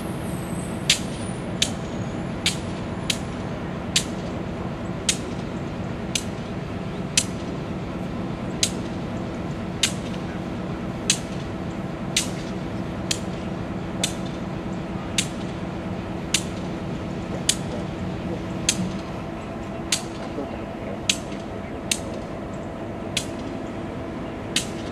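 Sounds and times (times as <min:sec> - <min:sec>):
diesel locomotive idling: 0:00.0 - 0:24.9.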